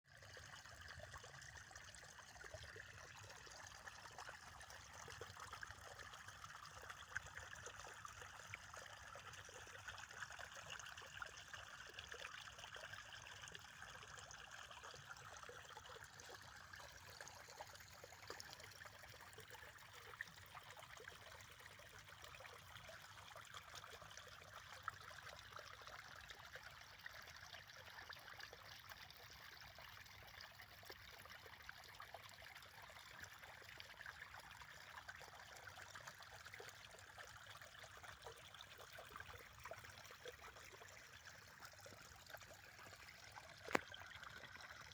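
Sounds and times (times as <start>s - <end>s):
trickling water: 0.0s - 44.9s
small water splashes: 0.1s - 44.9s.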